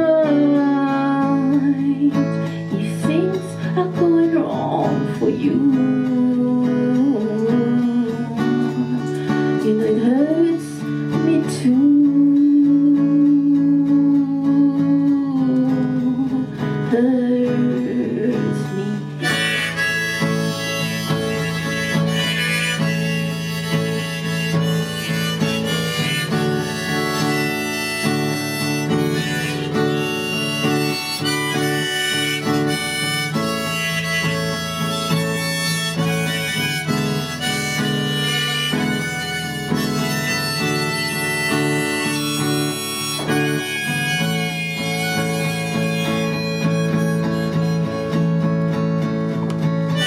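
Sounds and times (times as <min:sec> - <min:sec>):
blues harmonica: 0:00.0 - 0:50.0
guitar accompaniment: 0:00.0 - 0:50.0.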